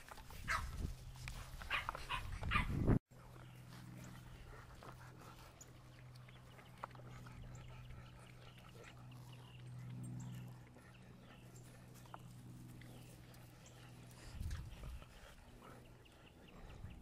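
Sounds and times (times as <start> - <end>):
dogs play-wrestling on grass: 0.0 - 17.0
steady low hum: 0.0 - 17.0.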